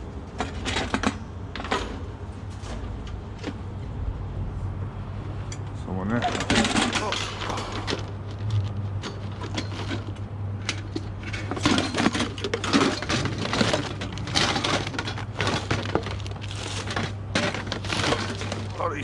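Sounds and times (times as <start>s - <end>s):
steady low hum: 0.0s - 19.0s
rubbish clattering and rustling: 0.2s - 4.0s, 6.1s - 19.0s.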